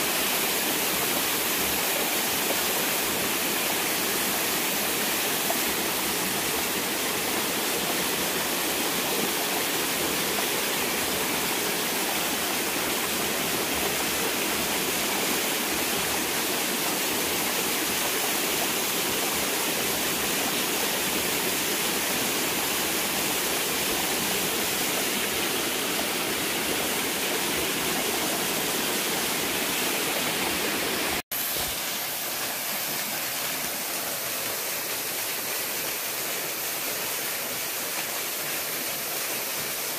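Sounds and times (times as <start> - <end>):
water rushing down waterfall: 0.0 - 39.9.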